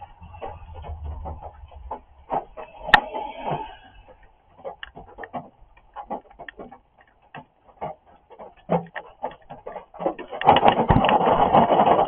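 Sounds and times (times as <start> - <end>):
rain drumming: 0.0 - 12.0.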